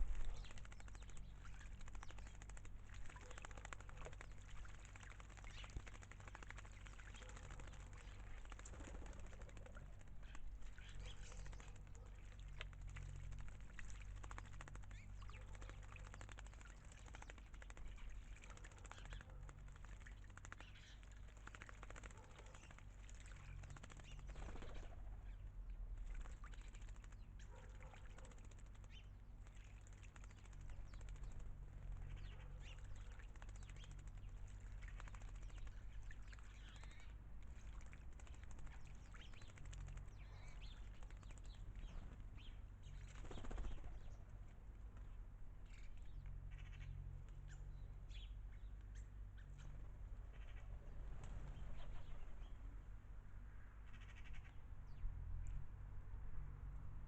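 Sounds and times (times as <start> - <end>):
bird calls: 0.0 - 52.7, 53.8 - 55.0
birds splashing in water: 0.0 - 54.8
faint low rumble: 0.0 - 57.0.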